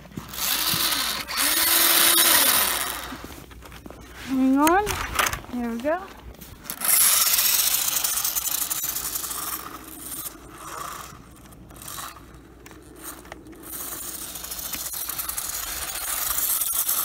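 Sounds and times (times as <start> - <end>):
toy car tyres scraping on ice: 0.0 - 17.0.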